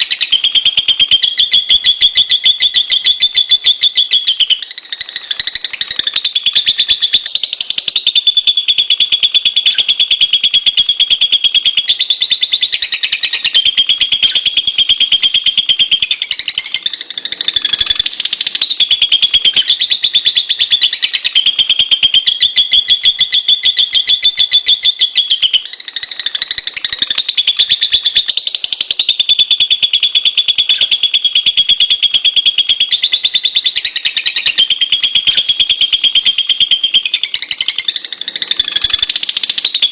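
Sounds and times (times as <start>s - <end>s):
lovebird chattering trill: 0.0s - 39.9s.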